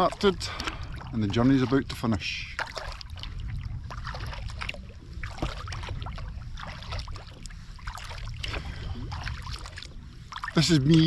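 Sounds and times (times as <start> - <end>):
kayak paddle splashing water: 0.0 - 11.0
steady low rumble: 0.0 - 11.0.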